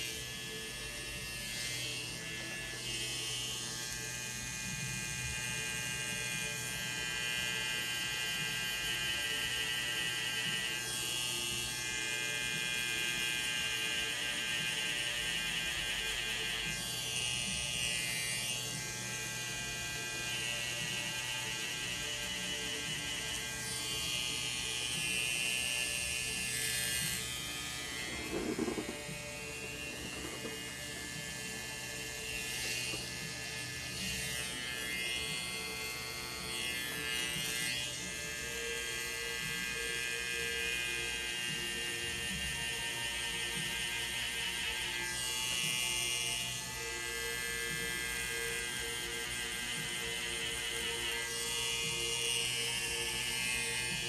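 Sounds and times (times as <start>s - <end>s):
tattoo machine buzzing: 0.0s - 54.0s.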